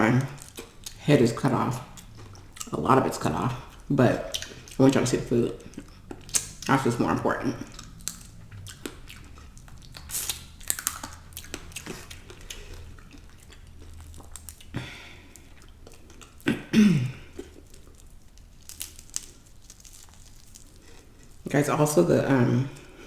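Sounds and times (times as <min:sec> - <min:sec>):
chewing food: 0:00.0 - 0:21.6.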